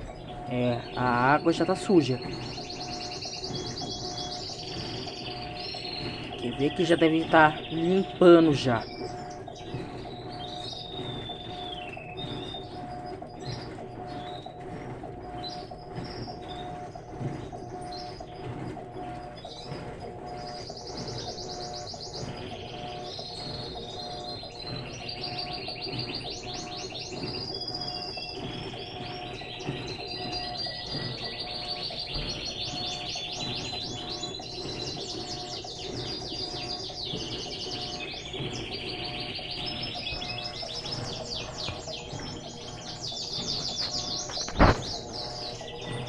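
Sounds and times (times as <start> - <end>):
birds chirping and trilling: 0.0 - 46.0
washing machine churning: 0.0 - 46.0.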